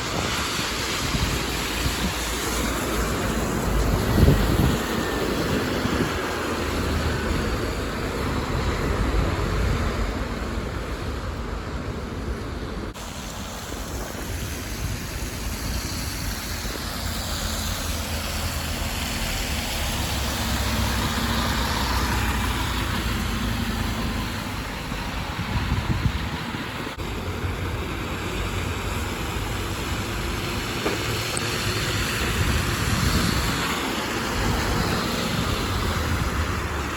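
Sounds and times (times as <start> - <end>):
bus diesel engines rumbling: 0.0 - 36.9
road traffic noise: 0.0 - 36.9.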